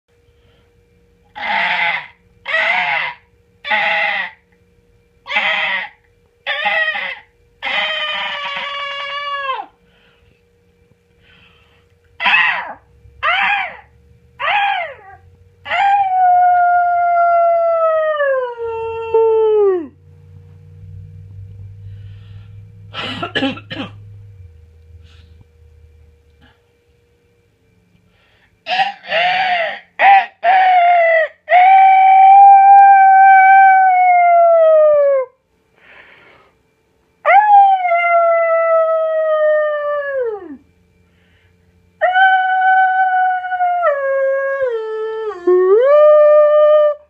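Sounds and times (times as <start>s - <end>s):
long howl: 1.3s - 4.5s, 5.2s - 10.2s, 12.2s - 26.6s, 28.7s - 35.4s, 37.2s - 40.7s, 42.0s - 47.0s.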